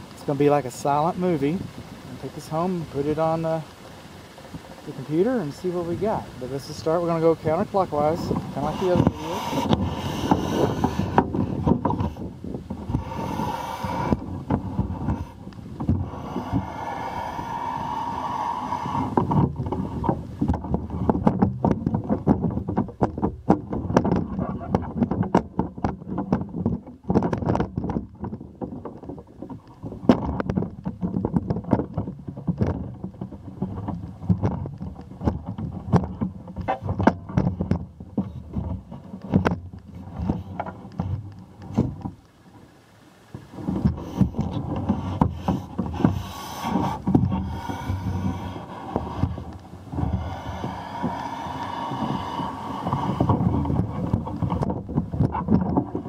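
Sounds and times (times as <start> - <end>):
wind rushing over microphone: 0.0 - 42.2, 43.2 - 56.0.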